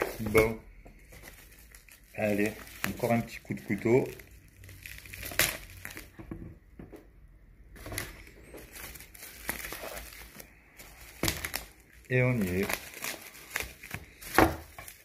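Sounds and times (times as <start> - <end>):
bubble wrap crinkling: 0.0 - 6.2, 7.7 - 15.0.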